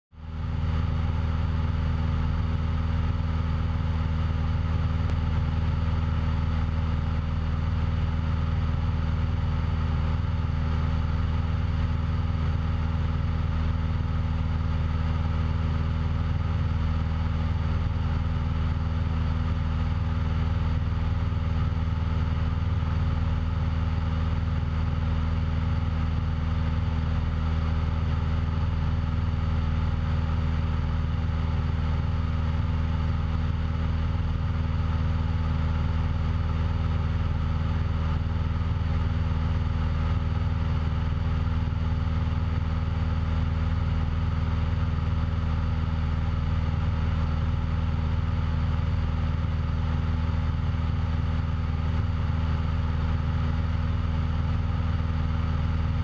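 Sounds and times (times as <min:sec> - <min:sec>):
aircraft engine and propeller drone: 0:00.3 - 0:56.0.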